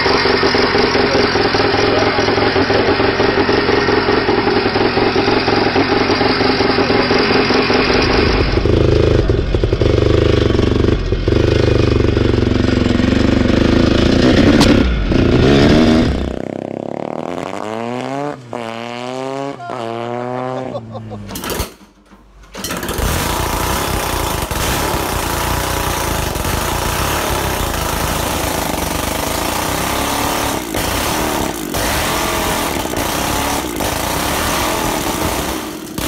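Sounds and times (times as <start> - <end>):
dirt bike engine: 0.0 - 36.0
distant bike revving: 0.0 - 36.0.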